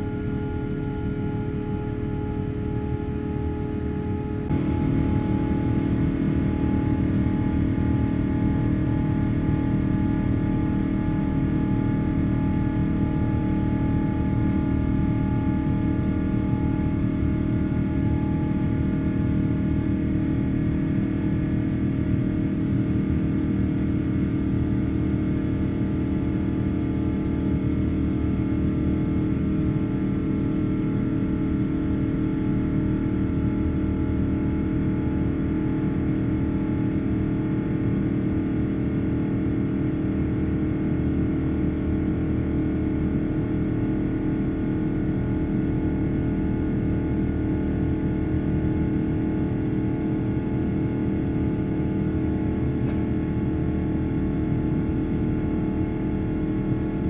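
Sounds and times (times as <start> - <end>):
humming engine tones: 0.0 - 57.0
jet engine and airflow rumble: 0.0 - 57.0.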